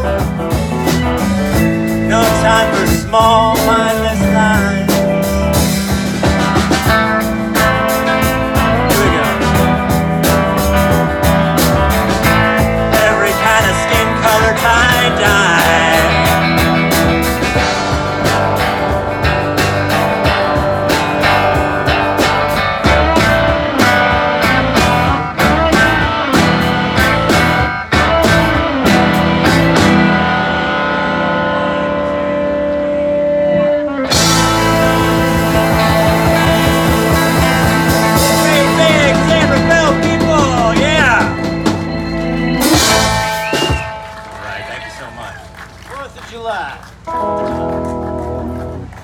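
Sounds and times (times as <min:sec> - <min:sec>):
drum and cymbal hits: 0:00.0 - 0:30.3, 0:34.1 - 0:44.5
electric guitar: 0:00.0 - 0:45.6, 0:46.9 - 0:49.0
bass guitar: 0:00.0 - 0:49.0.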